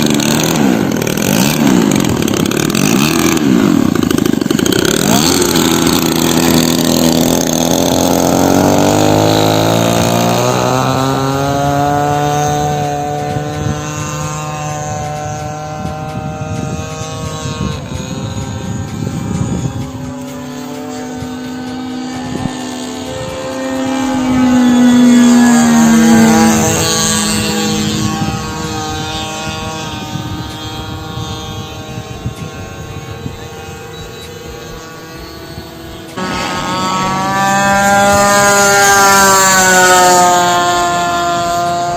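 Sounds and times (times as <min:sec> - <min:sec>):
model airplane engine buzzing: 0:00.0 - 0:41.9.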